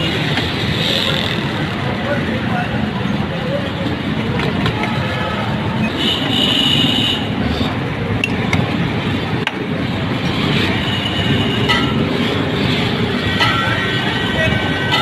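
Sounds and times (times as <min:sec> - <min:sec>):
roadside traffic: 0:00.0 - 0:15.0.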